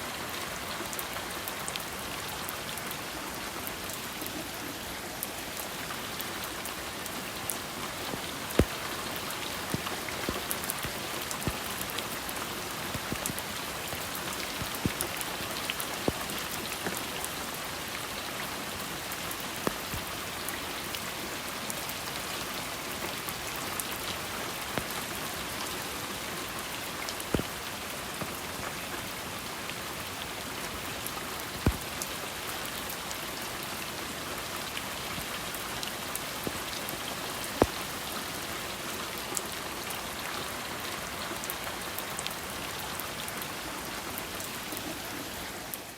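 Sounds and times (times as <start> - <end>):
raindrops striking a surface: 0.0 - 45.9
steady rain hiss: 0.0 - 45.9.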